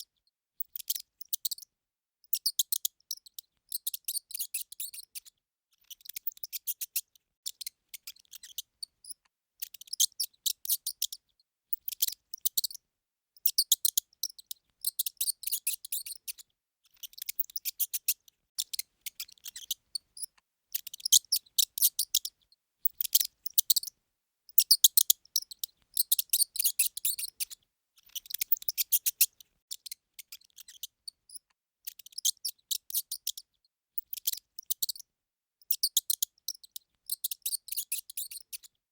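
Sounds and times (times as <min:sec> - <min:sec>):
mouse squeaking: 0:00.6 - 0:01.7, 0:02.3 - 0:12.8, 0:13.4 - 0:33.4, 0:34.0 - 0:35.0, 0:35.7 - 0:38.7.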